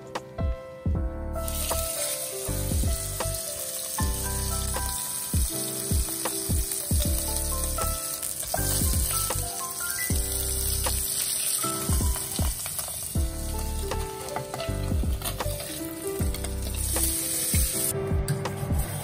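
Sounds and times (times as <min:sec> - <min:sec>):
background music with a beat: 0:00.0 - 0:19.0
steak sizzling in a frying pan: 0:01.4 - 0:18.0.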